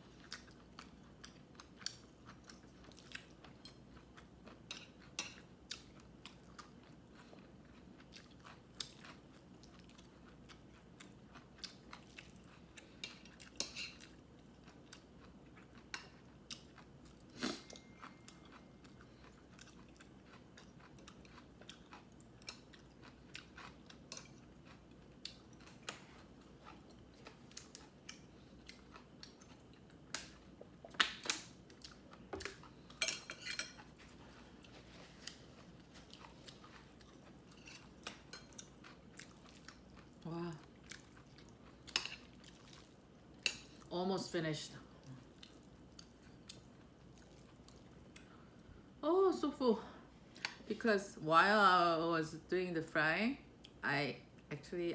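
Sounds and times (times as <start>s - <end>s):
chewing and crunching: 0.0s - 43.9s, 44.9s - 48.6s.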